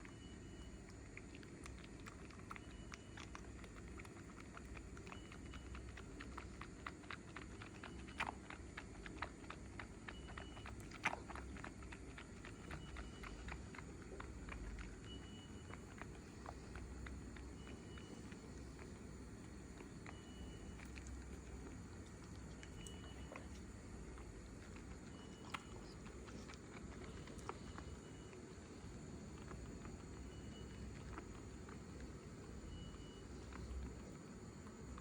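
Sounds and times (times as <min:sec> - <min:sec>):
kitten suckling from bottle: 0:00.1 - 0:35.0.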